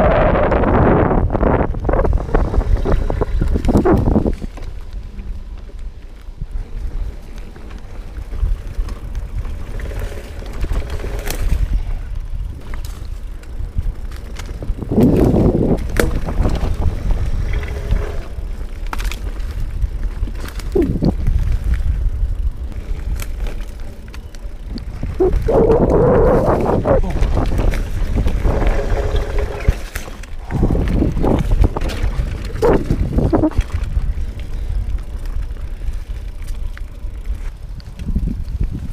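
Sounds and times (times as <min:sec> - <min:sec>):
wind rushing over microphone: 0:00.0 - 0:05.6, 0:06.3 - 0:38.9
bike tyres rumbling on dirt: 0:00.0 - 0:38.9
bike knocking and rattling: 0:00.1 - 0:38.9.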